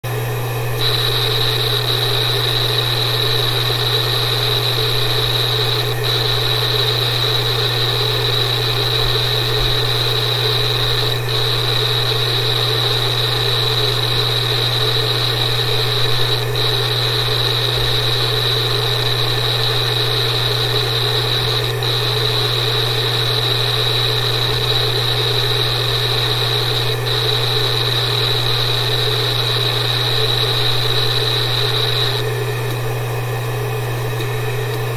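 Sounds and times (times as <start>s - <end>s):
hard disk drive humming and whining: 0.0s - 34.9s.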